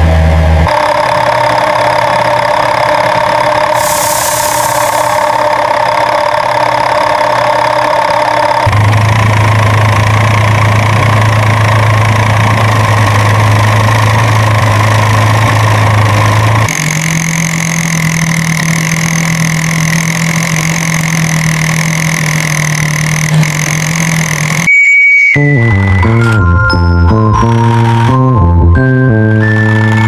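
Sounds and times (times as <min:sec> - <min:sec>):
vehicle engine humming: 0:00.0 - 0:24.7, 0:25.5 - 0:30.0.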